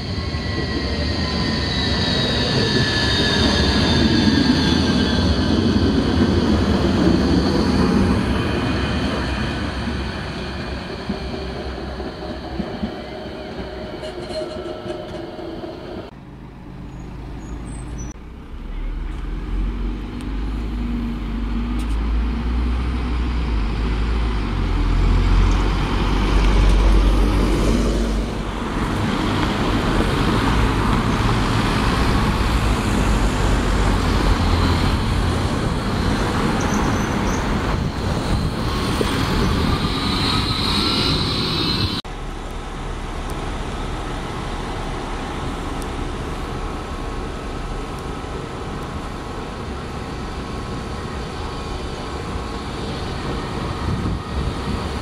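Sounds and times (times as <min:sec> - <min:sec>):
bus engine rumbling: 0:00.0 - 0:55.0
bus pulling away with whine: 0:00.0 - 0:55.0
town traffic: 0:00.0 - 0:55.0
tram humming: 0:00.0 - 0:55.0.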